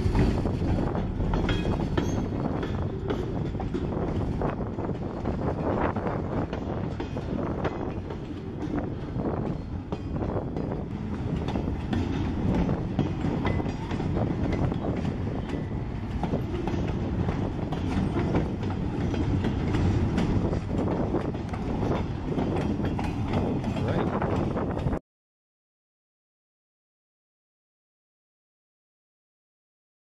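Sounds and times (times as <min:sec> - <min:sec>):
wheels clicking over rail joints: 0:00.0 - 0:25.0.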